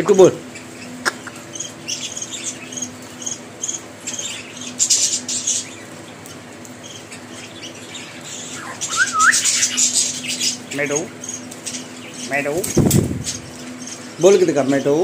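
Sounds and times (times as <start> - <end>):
birds chirping and clicking: 0.0 - 15.0.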